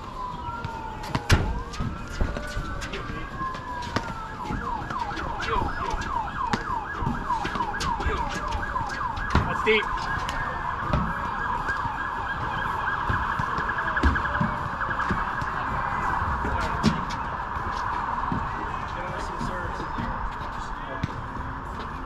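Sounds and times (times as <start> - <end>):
emergency siren yelping: 0.0 - 22.0.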